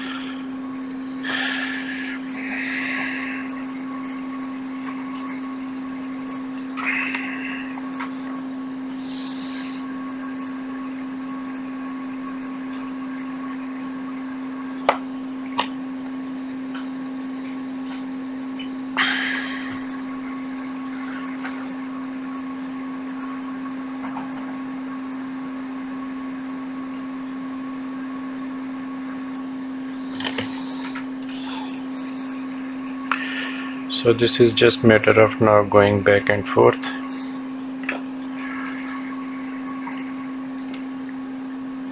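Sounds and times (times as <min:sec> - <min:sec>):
electrical hum of equipment: 0:00.0 - 0:41.9.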